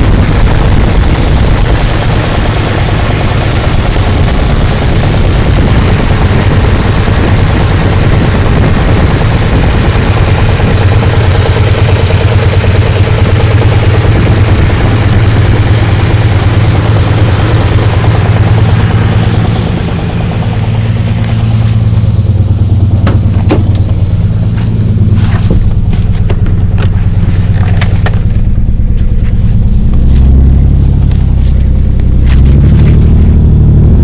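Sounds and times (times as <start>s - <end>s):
car engine running: 0.0s - 34.0s
sharp engine clicks: 0.0s - 34.0s.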